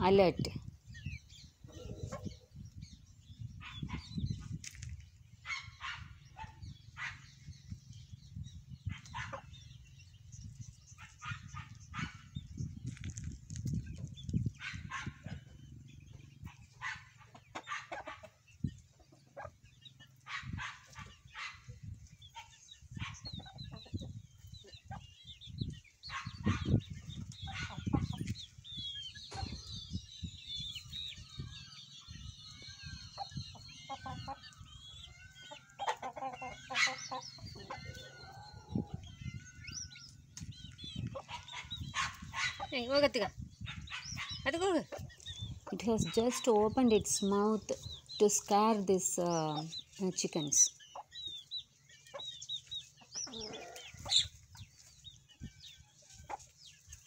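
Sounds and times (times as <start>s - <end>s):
chicks cheeping: 0.0s - 57.0s
chickens clucking: 0.1s - 57.0s.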